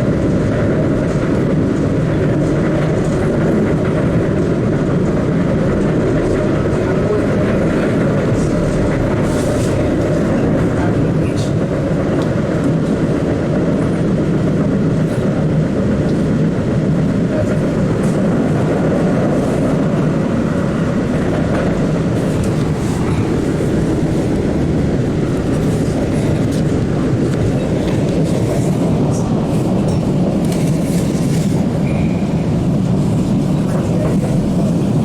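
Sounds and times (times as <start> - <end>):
subway car rumbling: 0.0 - 35.0.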